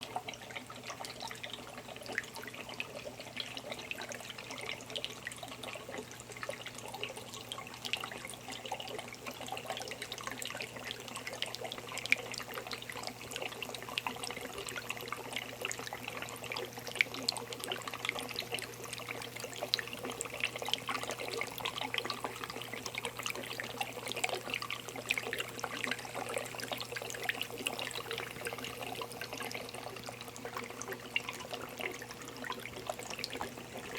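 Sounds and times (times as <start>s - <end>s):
small water drips: 0.0s - 33.9s
water trickling in a fountain: 0.0s - 33.9s.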